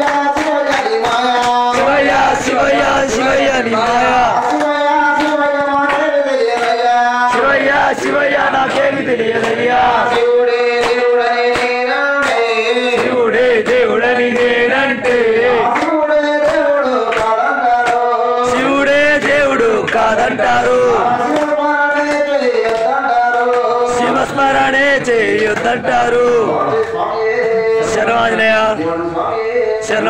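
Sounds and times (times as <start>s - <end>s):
man singing into microphone: 0.0s - 30.0s.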